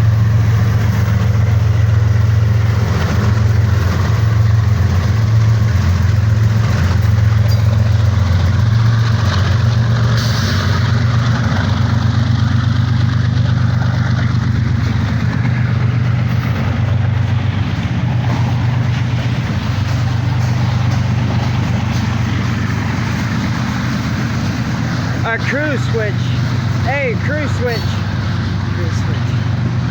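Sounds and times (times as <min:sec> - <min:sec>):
diesel locomotive engines idling: 0:00.0 - 0:29.9.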